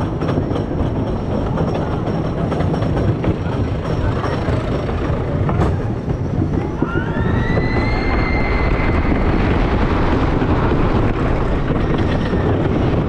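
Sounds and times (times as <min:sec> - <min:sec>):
roller coaster wheels rumbling: 0:00.0 - 0:13.0
rushing wind: 0:00.0 - 0:13.0.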